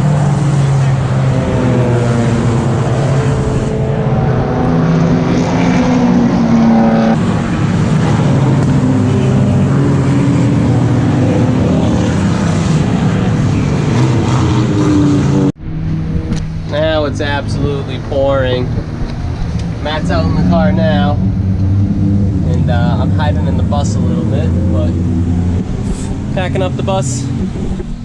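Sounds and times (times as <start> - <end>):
race car engines: 0.0 - 28.0.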